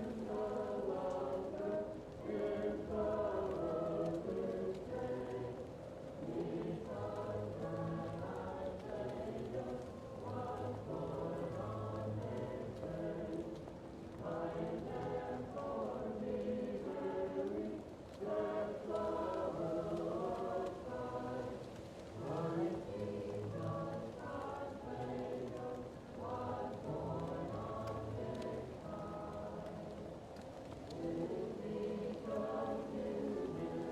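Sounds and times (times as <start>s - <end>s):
muffled choir singing: 0.0s - 33.9s
wood fire crackling: 0.0s - 33.9s.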